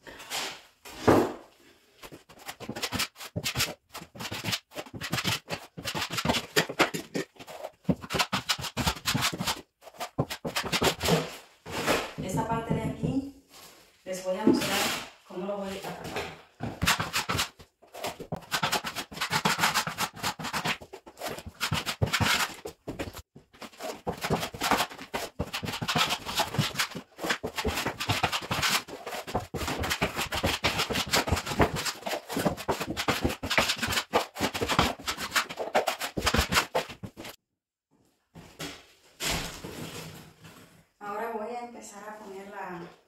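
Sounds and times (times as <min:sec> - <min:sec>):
drywall knife scraping compound: 0:00.0 - 0:12.4, 0:14.4 - 0:37.4, 0:38.5 - 0:40.9.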